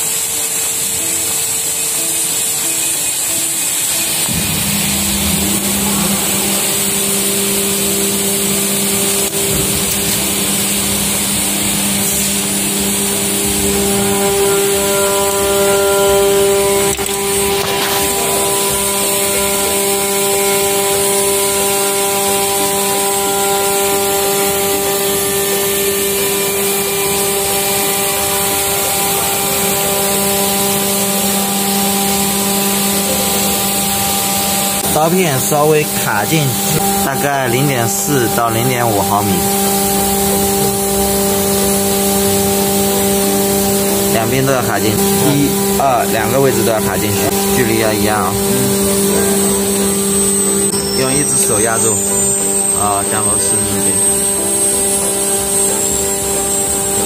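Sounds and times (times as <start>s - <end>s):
factory machinery droning: 0.0s - 57.0s.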